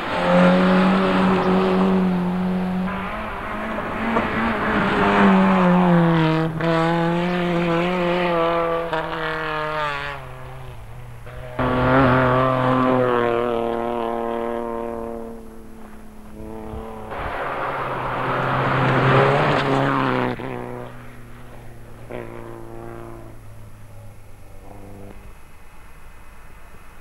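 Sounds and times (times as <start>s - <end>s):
rally car engines at high revs: 0.0s - 27.0s.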